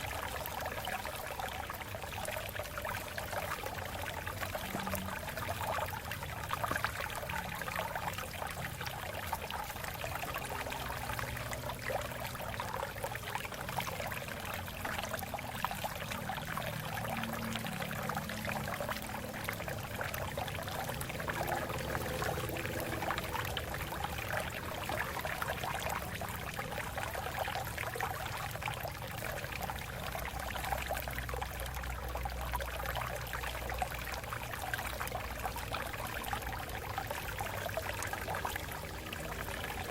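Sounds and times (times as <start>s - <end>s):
water splashing over rocks: 0.0s - 39.9s.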